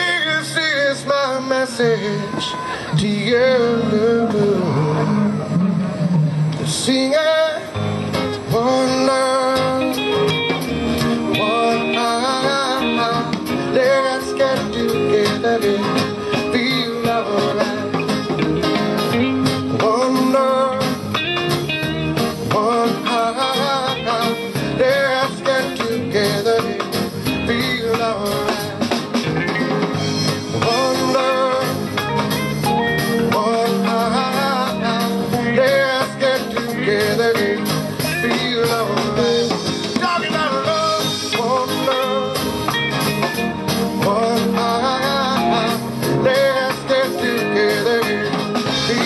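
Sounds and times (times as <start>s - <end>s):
guitar: 0.0s - 49.0s
live reggae band: 0.0s - 49.0s
person singing: 8.4s - 29.8s, 30.5s - 49.0s.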